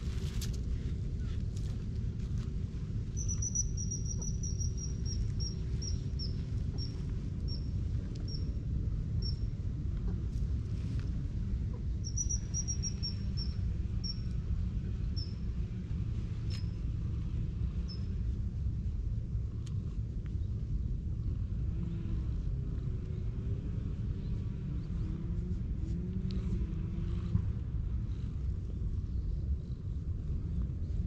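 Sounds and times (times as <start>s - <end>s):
steady low rumble: 0.0s - 31.0s.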